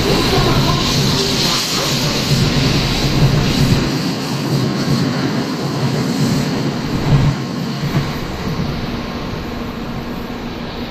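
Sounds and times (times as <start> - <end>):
train rushing and rumbling past: 0.0 - 10.9.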